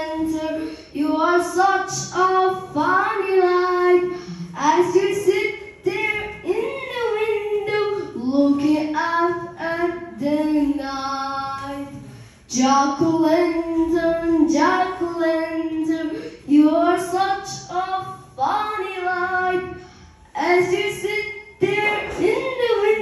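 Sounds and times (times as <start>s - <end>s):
girl singing unaccompanied: 0.0s - 23.0s.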